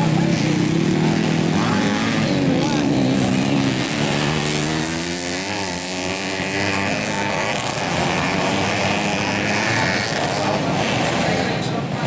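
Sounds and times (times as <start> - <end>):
motocross bike engine running hard: 0.0 - 12.0.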